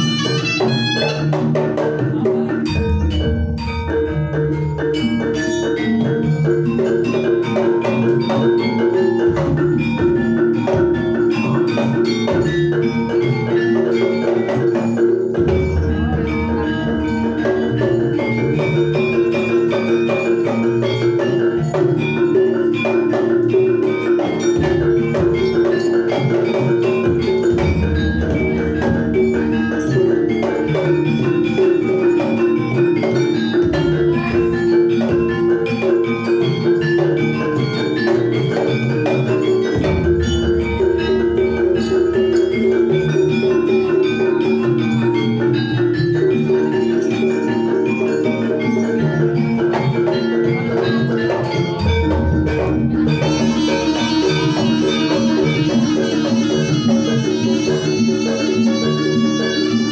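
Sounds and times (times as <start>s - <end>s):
hand drumming: 0.0s - 59.9s
metallophones playing fast melody: 0.0s - 59.9s.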